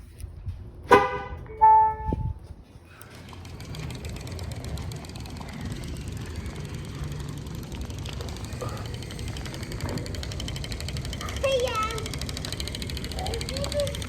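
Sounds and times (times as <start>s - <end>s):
bicycles rolling: 2.6s - 14.0s.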